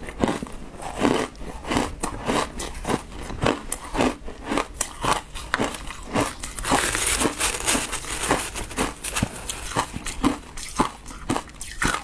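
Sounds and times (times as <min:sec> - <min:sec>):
shaved ice crunched and chewed: 0:00.1 - 0:12.0.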